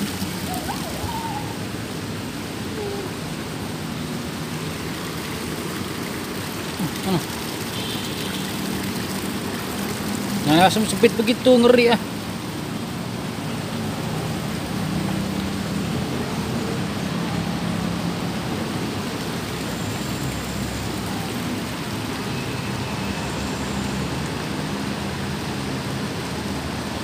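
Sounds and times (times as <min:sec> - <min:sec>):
water rushing hiss: 0:00.0 - 0:27.0.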